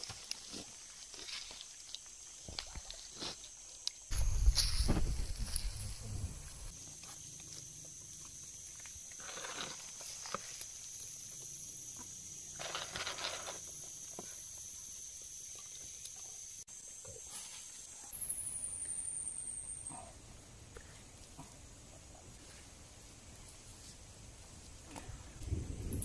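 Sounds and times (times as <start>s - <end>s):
high-pitched insect chorus: 1.1s - 20.4s, 22.0s - 26.0s.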